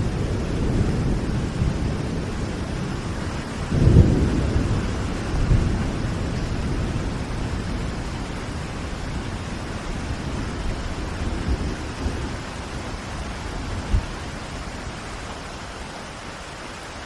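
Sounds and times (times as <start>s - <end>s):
thunder rumble: 0.0s - 15.2s
steady rain: 0.0s - 17.0s.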